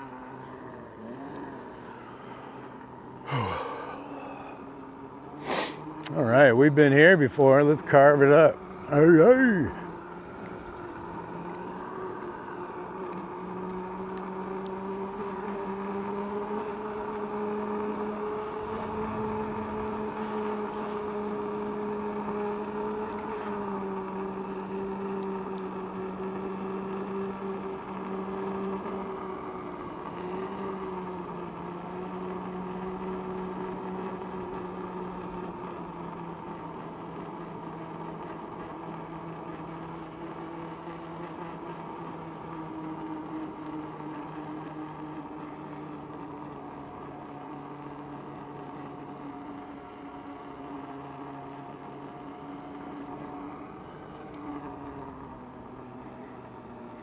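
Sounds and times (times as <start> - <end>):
electric motor whining: 7.9 - 57.0.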